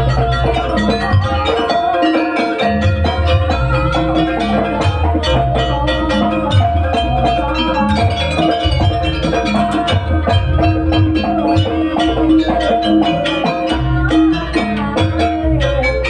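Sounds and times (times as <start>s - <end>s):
drums: 0.0s - 16.0s
metallic percussion: 0.0s - 16.0s
bass line: 2.7s - 16.0s.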